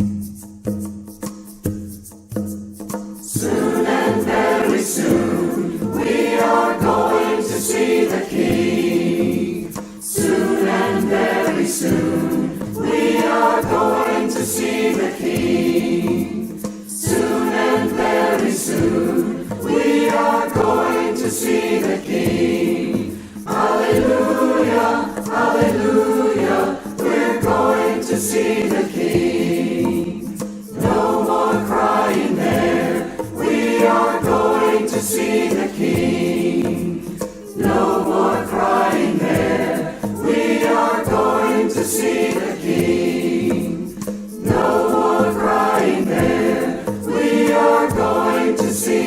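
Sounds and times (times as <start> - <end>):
choir singing gospel: 3.2 - 49.0.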